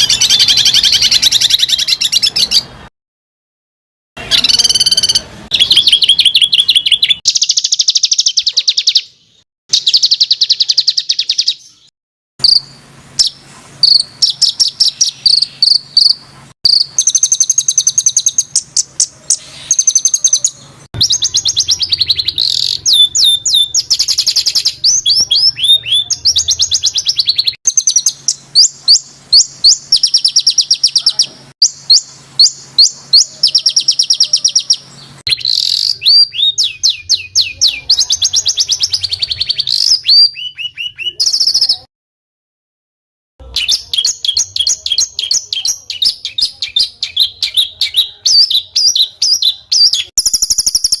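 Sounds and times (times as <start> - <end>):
songbird singing harsh trills: 0.0 - 2.8, 4.2 - 41.9, 43.4 - 51.0.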